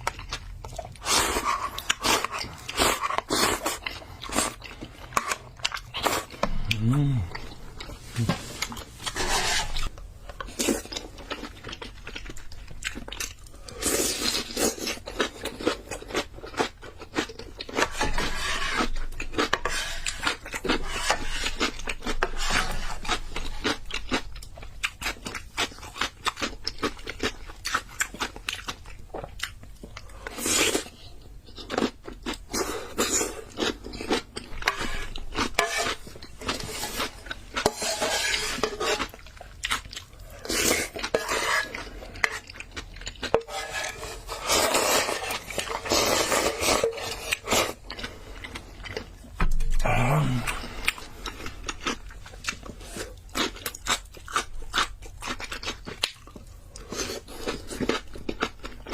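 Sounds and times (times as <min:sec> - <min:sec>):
chewing noodles: 0:00.0 - 0:58.9.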